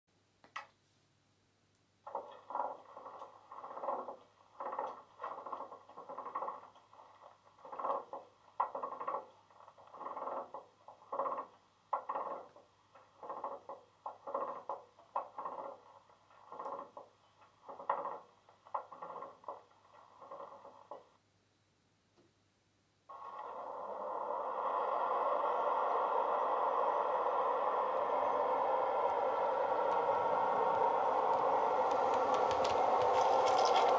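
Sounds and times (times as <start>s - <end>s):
faint steady hum: 0.1s - 33.9s.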